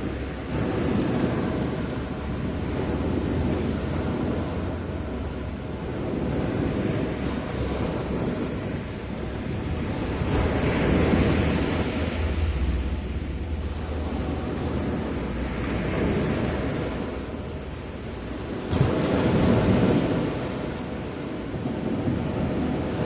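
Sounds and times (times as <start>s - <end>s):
sea waves breaking on beach: 0.0s - 23.0s
wind rumbling on microphone: 0.0s - 23.0s.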